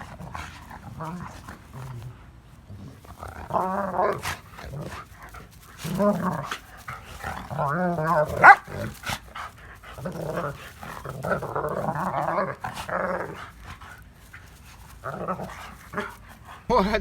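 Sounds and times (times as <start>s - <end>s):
dog growling: 0.0s - 14.1s, 14.9s - 17.0s.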